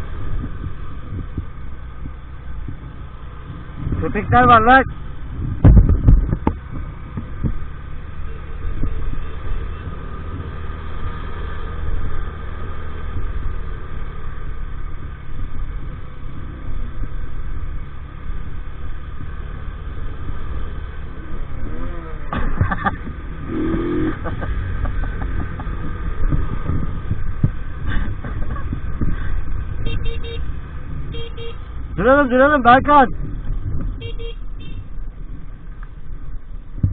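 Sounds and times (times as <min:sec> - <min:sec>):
moped engine rumbling: 0:00.0 - 0:36.9.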